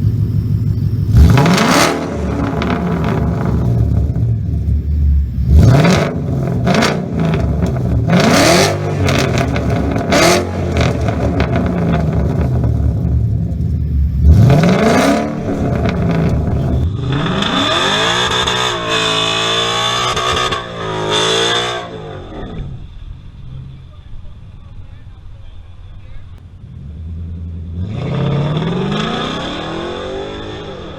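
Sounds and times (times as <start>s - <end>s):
car engine revving: 0.0s - 24.7s, 26.4s - 30.9s.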